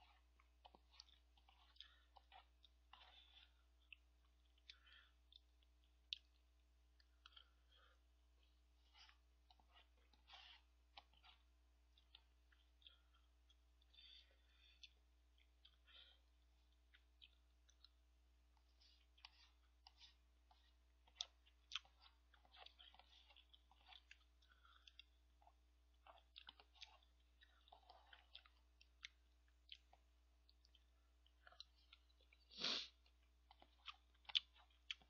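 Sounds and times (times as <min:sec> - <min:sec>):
chewing: 0:00.0 - 0:35.0.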